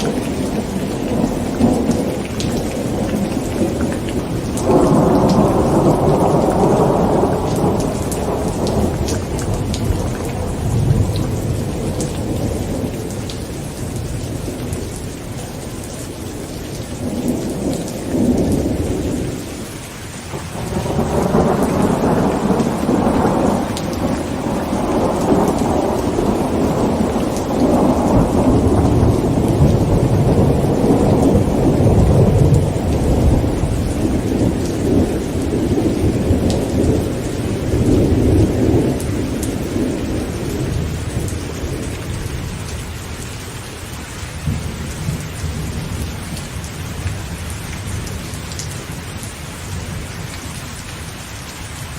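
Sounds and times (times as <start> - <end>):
thunder rumbling: 0.0 - 19.7, 20.3 - 42.8
heavy rain on a tent: 0.0 - 51.9.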